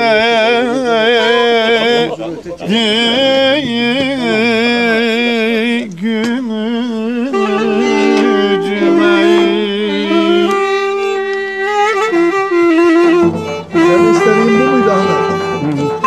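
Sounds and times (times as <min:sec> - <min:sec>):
clarinet: 0:00.0 - 0:16.0
violin: 0:00.0 - 0:16.0.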